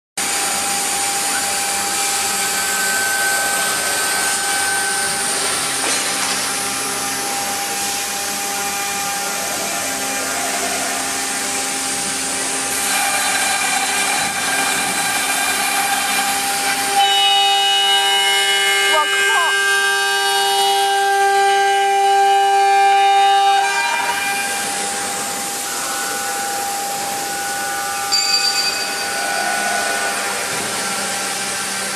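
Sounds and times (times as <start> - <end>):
router spindle cutting wood: 0.2 - 31.9.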